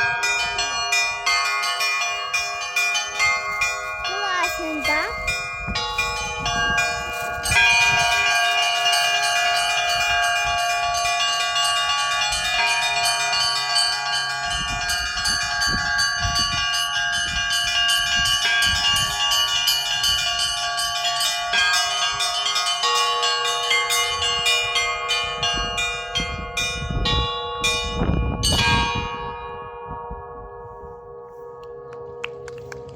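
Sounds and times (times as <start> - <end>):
large church bells ringing: 0.0 - 32.9
small church bells rapid peal: 0.0 - 32.9.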